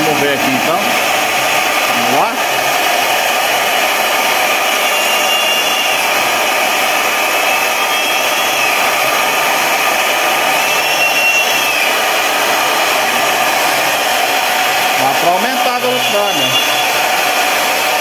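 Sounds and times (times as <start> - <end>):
high cutting tone: 0.0 - 17.3
router spindle whine and hiss: 0.0 - 18.0.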